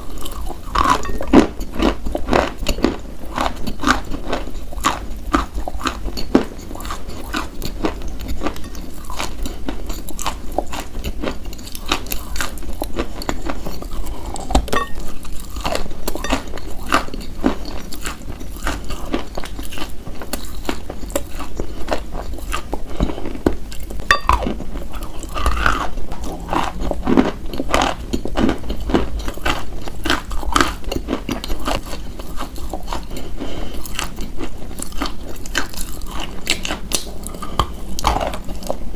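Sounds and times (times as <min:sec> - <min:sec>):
crunchy chewing of clay: 0:00.0 - 0:38.9.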